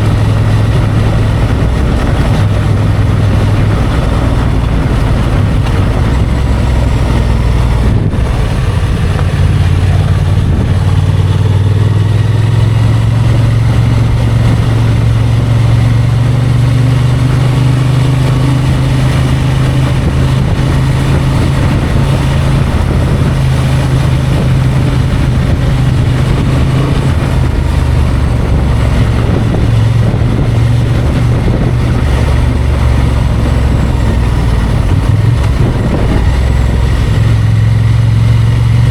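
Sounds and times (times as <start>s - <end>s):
motorcycle engine running: 0.0s - 38.9s
wind rush: 0.0s - 38.9s.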